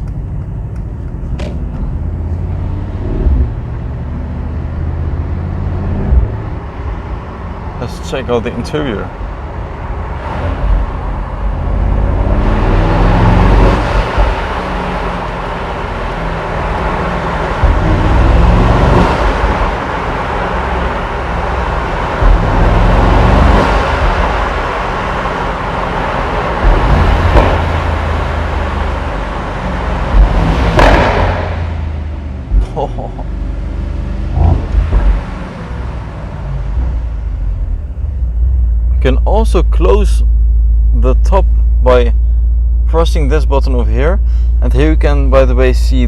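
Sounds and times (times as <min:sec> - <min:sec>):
car engine revving while driving: 0:00.0 - 0:39.6
sharp exhaust cracks: 0:07.8 - 0:46.0.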